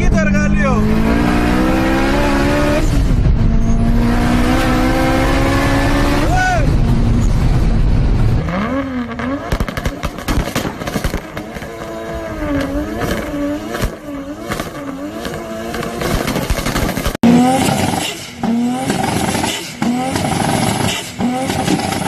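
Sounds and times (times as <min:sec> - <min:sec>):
car engine revving in blips: 0:00.0 - 0:22.0.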